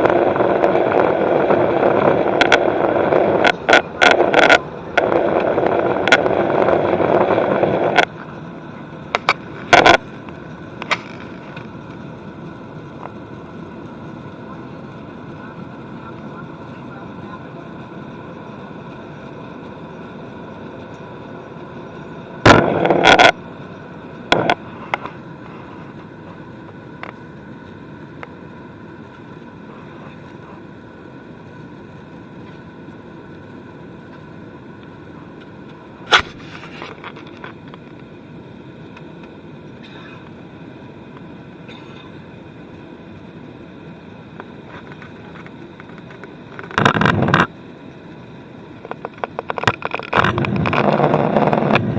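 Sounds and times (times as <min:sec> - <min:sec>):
aircraft engines droning: 0:00.0 - 0:51.9
faint steady tones: 0:00.0 - 0:51.9.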